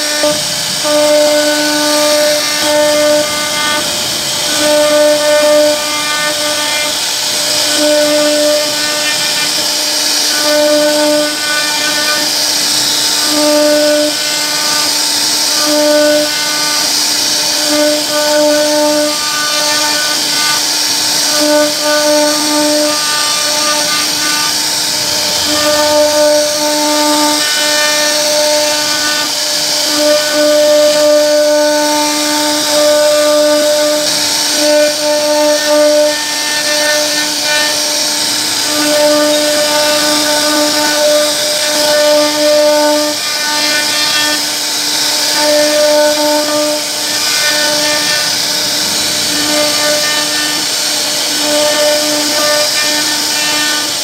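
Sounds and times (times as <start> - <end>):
router cutting hiss: 0.0 - 54.0
router spindle whine: 0.0 - 54.0.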